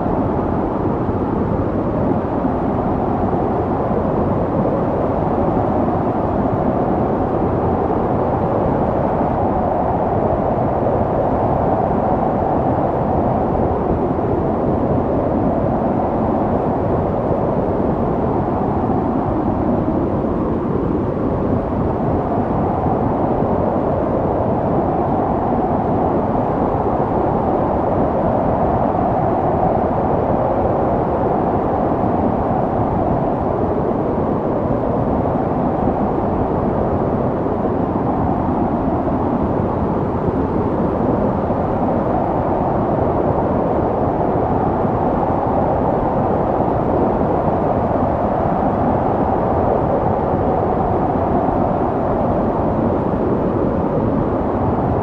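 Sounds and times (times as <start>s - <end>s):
snowstorm wind blowing: 0.0s - 55.0s.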